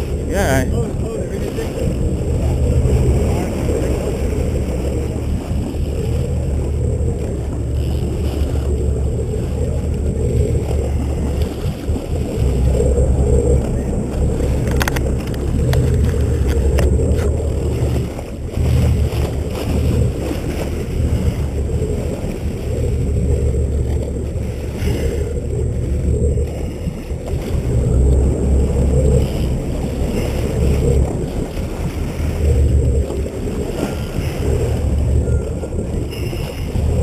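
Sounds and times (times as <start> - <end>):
boat engine running: 0.0 - 37.0
water rushing along hull: 0.0 - 37.0.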